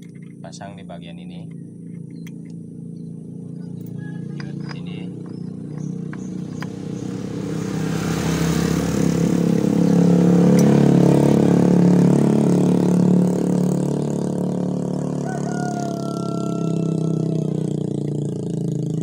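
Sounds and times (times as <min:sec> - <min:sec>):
vehicle engine passing by: 0:02.4 - 0:19.0.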